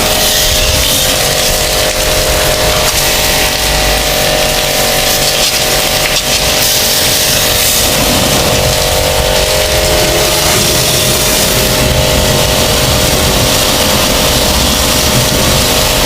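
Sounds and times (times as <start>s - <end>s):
pressure washer motor humming: 0.0s - 16.0s
water jet hissing: 0.0s - 16.0s.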